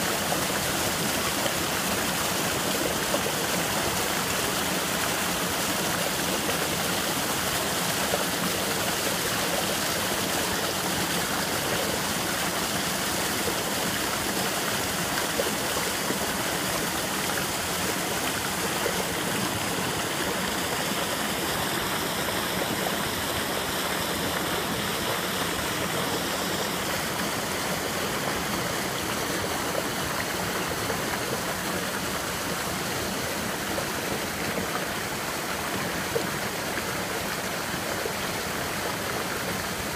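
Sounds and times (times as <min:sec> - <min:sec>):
creek water rushing over boulders: 0:00.0 - 0:39.9.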